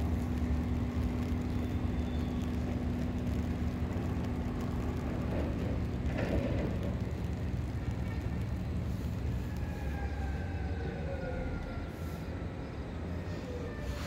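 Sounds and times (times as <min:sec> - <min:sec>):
trains rumbling: 0:00.0 - 0:14.0.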